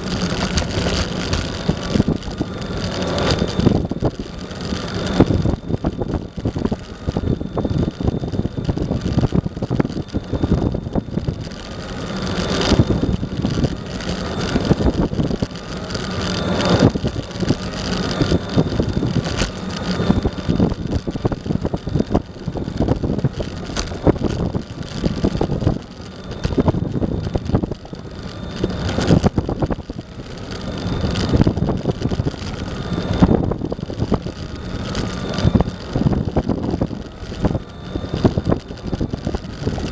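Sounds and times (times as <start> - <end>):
electric motor whine: 0.0 - 39.9
skateboard wheels rumbling on asphalt: 0.0 - 39.9
wind on microphone: 0.0 - 39.9.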